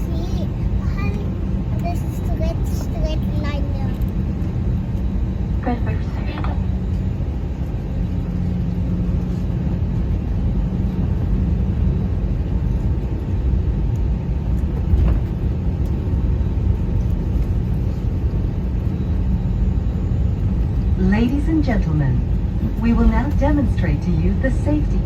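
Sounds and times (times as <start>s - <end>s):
aircraft cabin low rumble: 0.0s - 25.0s.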